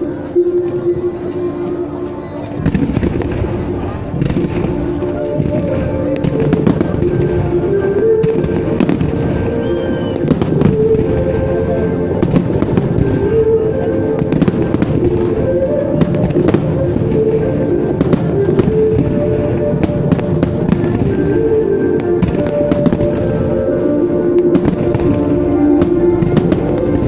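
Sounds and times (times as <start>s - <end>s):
fireworks bangs and crackle: 0.0s - 27.0s
loud music with held notes: 0.0s - 27.0s.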